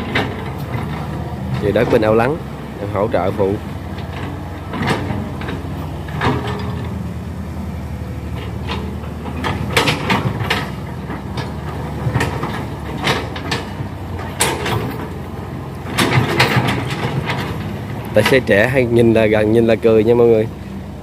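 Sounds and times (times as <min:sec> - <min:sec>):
diesel excavator engines running: 0:00.0 - 0:21.0
excavator buckets clanking and scraping: 0:00.0 - 0:21.0.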